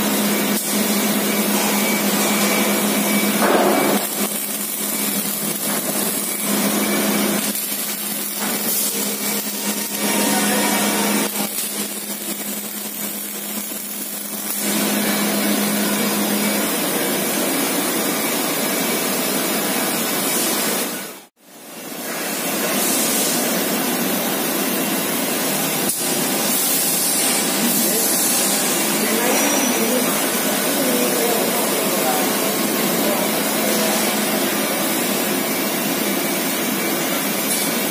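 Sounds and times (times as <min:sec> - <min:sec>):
workshop machinery and power tools: 0:00.0 - 0:37.9.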